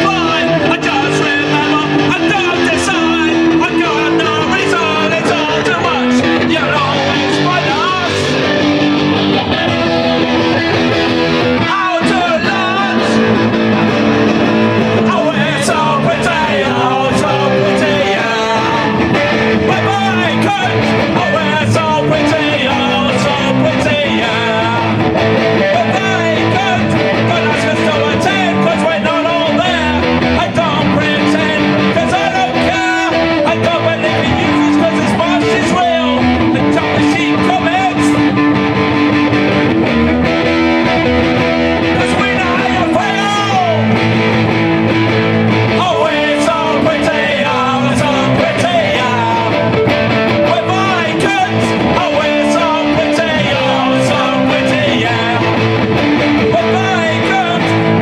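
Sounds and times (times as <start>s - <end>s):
person singing: 0.0s - 39.6s, 40.9s - 58.0s
rock band playing punk song: 0.0s - 58.0s
strummed electric guitars: 0.0s - 58.0s.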